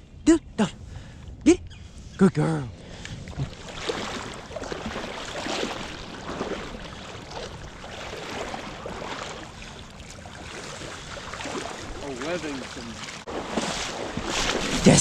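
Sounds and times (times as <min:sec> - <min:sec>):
water splashing and sloshing: 0:02.8 - 0:15.0.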